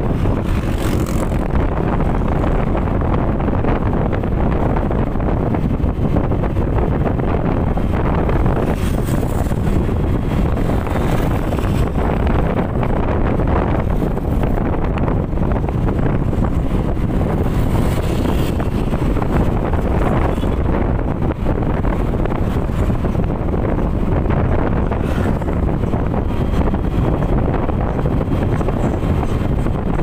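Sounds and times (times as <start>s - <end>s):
vehicle and road noise: 0.0s - 30.0s
wind rushing over microphone: 0.0s - 30.0s.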